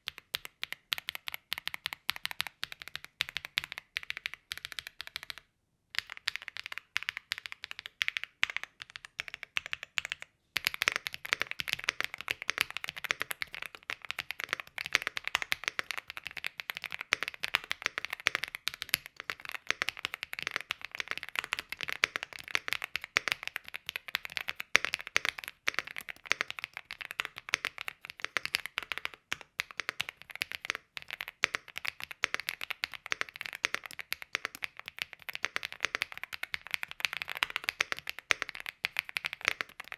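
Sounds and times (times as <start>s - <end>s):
mechanical keyboard typing: 0.0s - 5.4s, 6.0s - 39.9s.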